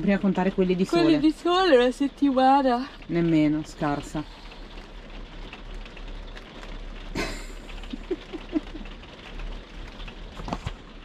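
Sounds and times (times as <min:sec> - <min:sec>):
rain pattering on a roof: 0:00.0 - 0:11.0.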